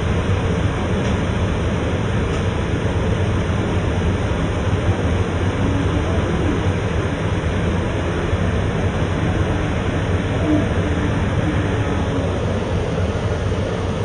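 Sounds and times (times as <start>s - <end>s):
rice milling machine running: 0.0s - 14.0s.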